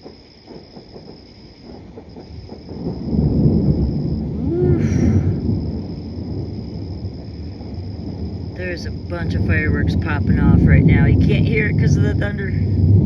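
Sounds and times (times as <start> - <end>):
crickets trilling: 0.0 - 13.0
distant fireworks popping: 0.0 - 13.0
thunder rumbling: 0.0 - 13.0.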